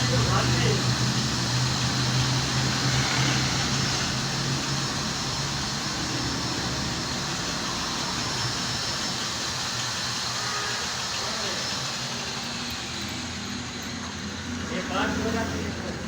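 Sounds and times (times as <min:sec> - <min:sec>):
low engine hum: 0:00.0 - 0:16.0
traffic noise: 0:00.0 - 0:16.0.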